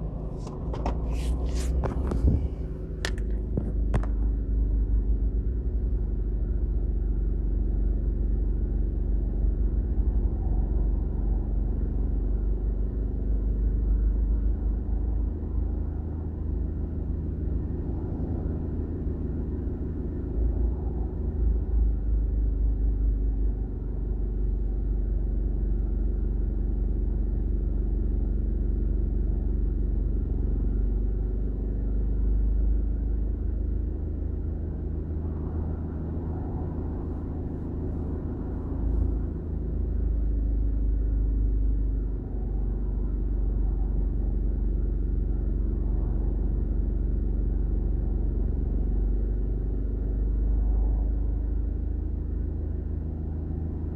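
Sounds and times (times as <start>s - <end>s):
highway traffic rumbling: 0.0s - 27.5s, 29.3s - 53.9s.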